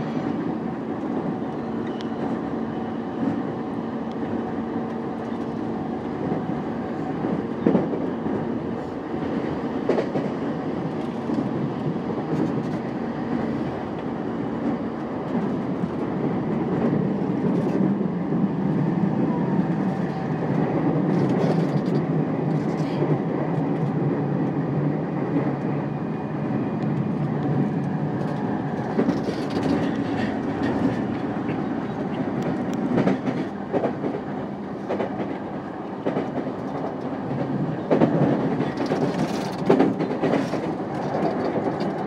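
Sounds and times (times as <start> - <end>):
train motor hum: 0.0 - 42.0
train wheels rumbling on rails: 0.0 - 42.0.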